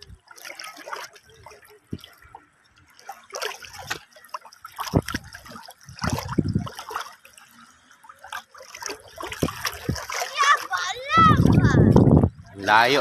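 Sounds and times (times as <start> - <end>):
seawater sloshing and splashing: 0.0 - 13.0.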